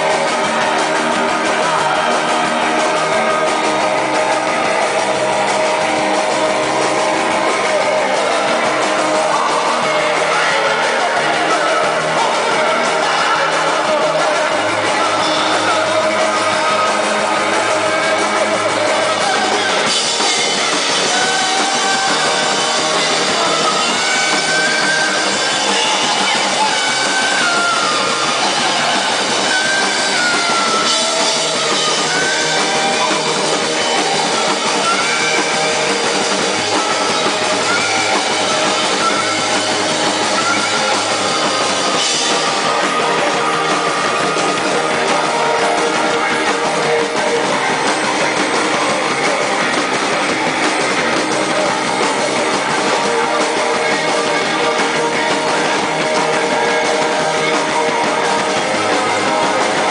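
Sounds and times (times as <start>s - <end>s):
live electronic band music: 0.0s - 59.9s.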